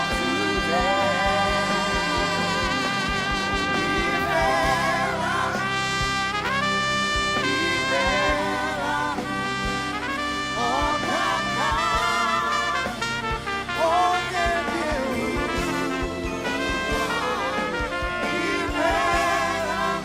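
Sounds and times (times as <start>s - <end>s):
live band: 0.0s - 20.0s
trumpet playing slow melody: 0.0s - 20.0s.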